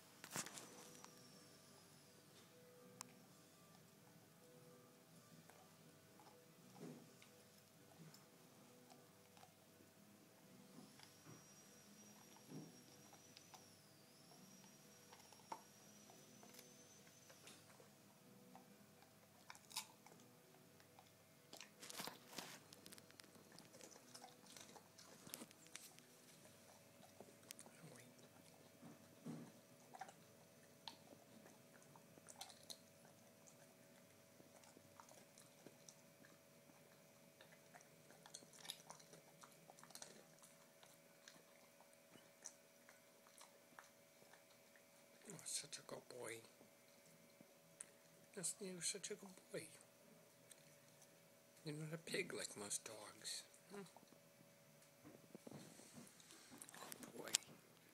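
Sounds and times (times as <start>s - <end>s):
dog chewing with faint crunches: 2.4s - 57.9s.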